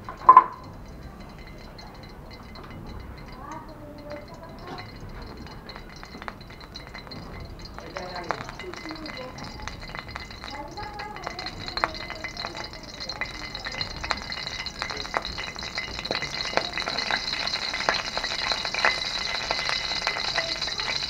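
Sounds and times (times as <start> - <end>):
hot oil crackling and popping: 0.0 - 21.0.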